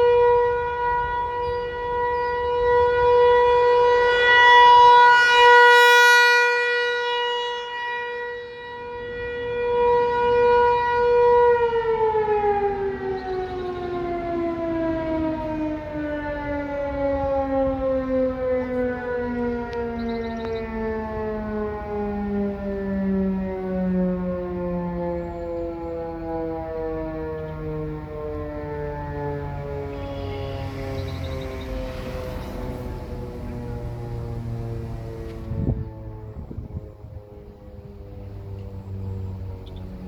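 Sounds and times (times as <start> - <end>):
warning siren tone: 0.0 - 40.0.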